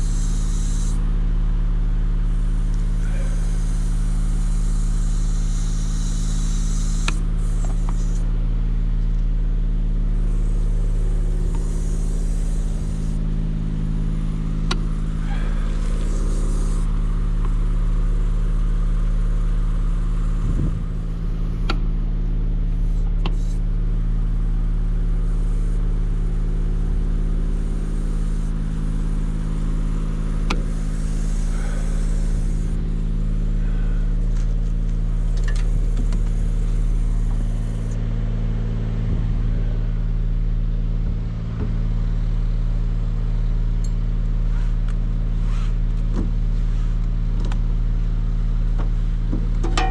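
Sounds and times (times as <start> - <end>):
large engine running steadily: 0.0 - 49.9.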